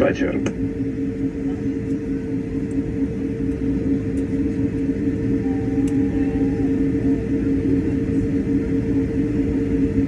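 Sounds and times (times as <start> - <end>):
aircraft cabin low rumble: 0.0 - 10.0
steady humming tones: 0.0 - 10.0.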